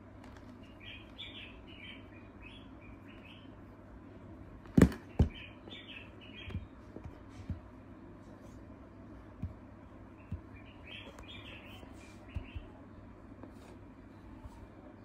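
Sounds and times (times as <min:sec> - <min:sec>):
birds chirping: 0:00.4 - 0:13.4.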